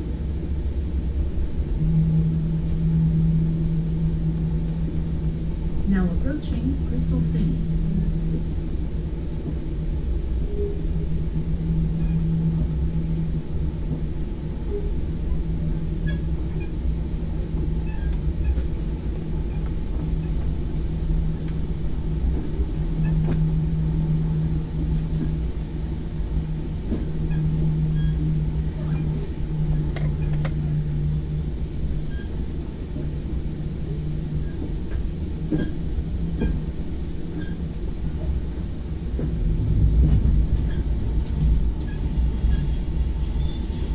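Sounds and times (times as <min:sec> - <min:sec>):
low hum: 0:00.0 - 0:43.9
train running rumble: 0:00.0 - 0:43.9.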